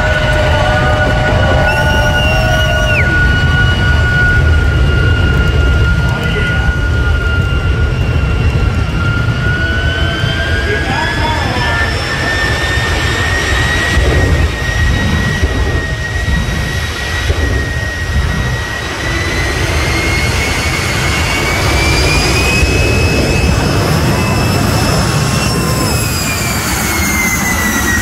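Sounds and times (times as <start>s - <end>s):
jet engine turbine whine: 0.0s - 28.0s.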